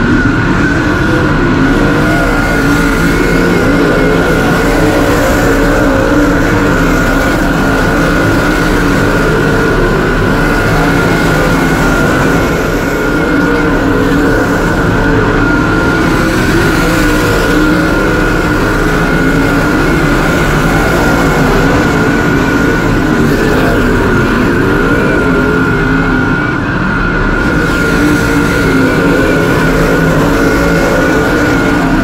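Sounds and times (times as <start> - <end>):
racing car engine: 0.0 - 32.0
steady high whine: 0.0 - 32.0.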